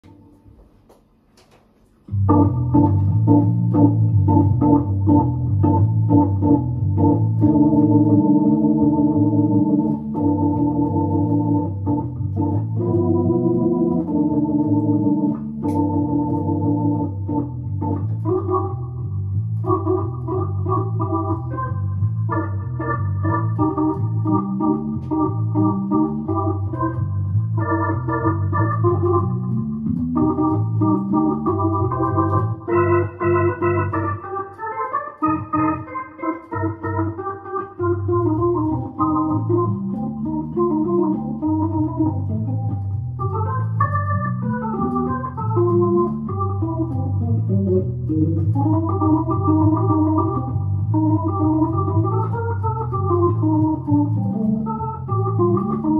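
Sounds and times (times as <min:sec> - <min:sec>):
organ keyboard playing chords: 0:01.9 - 0:55.9.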